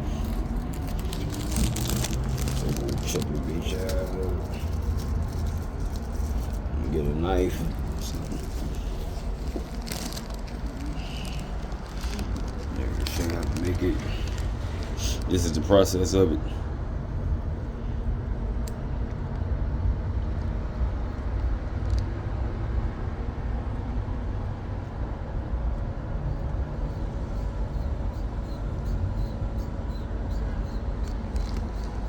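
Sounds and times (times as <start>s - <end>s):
vending machine humming and whirring: 0.0s - 32.0s.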